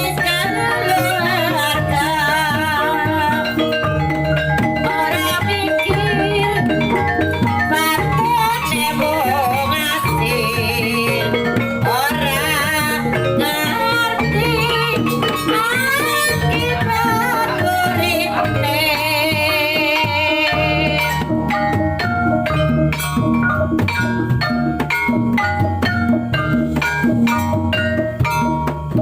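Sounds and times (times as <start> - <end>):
drums: 0.0 - 29.0
fast dense percussion: 0.0 - 29.0
wavering vibrato melody: 0.0 - 29.0.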